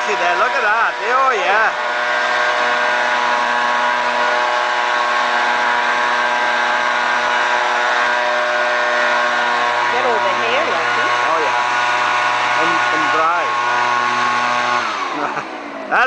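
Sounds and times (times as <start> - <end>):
leaf blower engine hum: 0.0 - 16.0.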